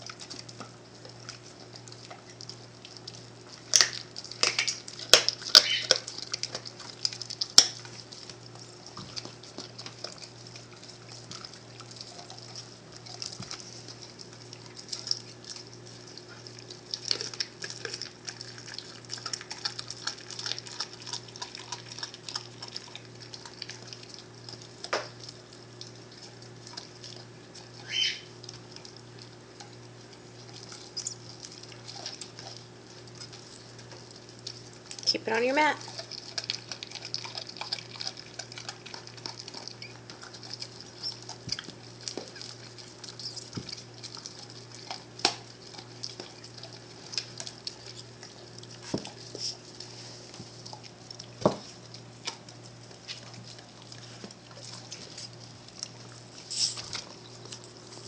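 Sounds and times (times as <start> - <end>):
dog chewing and tearing meat: 0.0 - 58.0.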